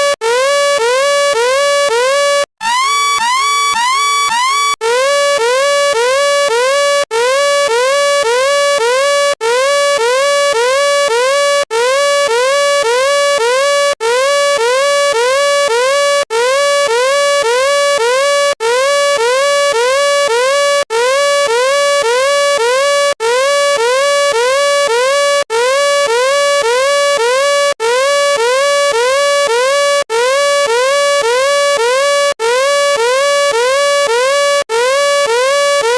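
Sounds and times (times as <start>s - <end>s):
electronic alarm rising tone: 0.0s - 22.6s, 23.3s - 35.9s.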